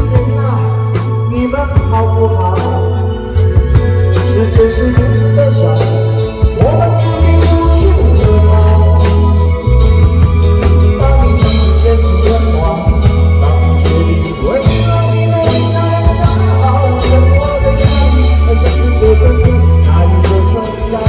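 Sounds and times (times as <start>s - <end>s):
live rock band playing: 0.0s - 21.0s
organ or keyboard: 0.0s - 21.0s.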